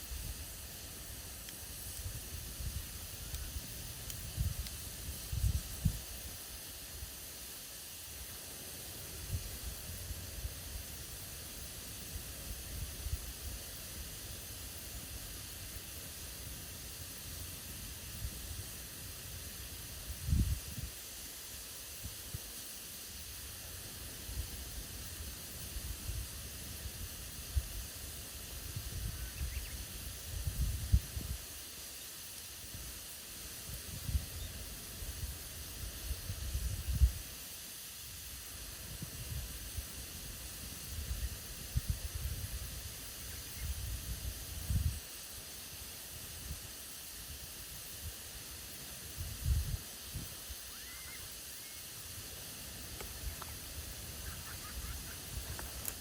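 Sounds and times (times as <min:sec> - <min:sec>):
campfire hissing: 0:00.0 - 0:56.0.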